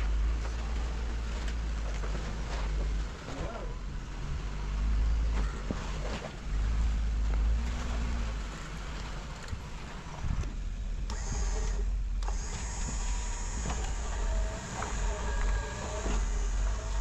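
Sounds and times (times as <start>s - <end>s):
engine rumbling at low revs: 0.0s - 17.0s.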